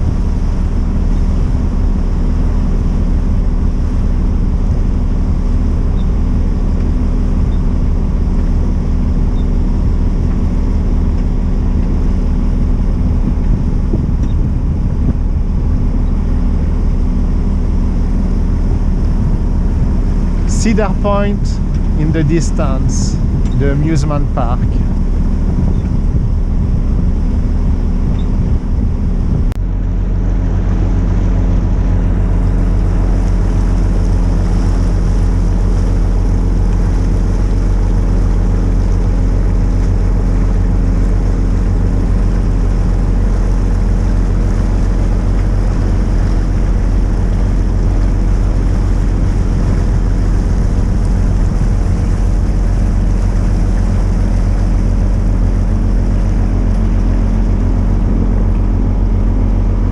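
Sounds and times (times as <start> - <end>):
boat engine running: 0.0 - 59.9
water rushing past hull: 0.0 - 59.9
wind buffeting microphone: 0.0 - 59.9.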